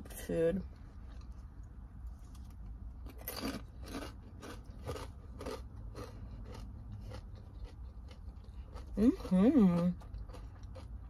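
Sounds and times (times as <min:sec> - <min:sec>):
crunching and chewing: 0:00.7 - 0:11.0.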